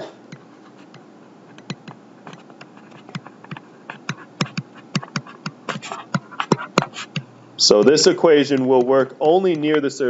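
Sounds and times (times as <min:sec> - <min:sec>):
stylus tapping on a tablet: 0:00.3 - 0:10.0.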